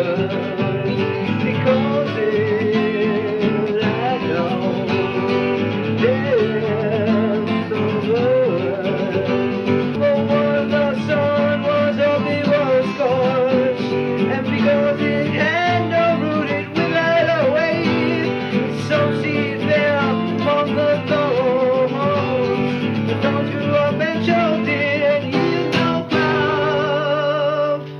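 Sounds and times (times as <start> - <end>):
guitar accompaniment: 0.0 - 27.9.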